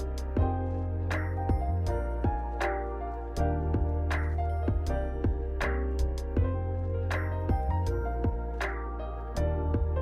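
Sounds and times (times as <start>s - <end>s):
soft background music with bass: 0.0s - 10.0s.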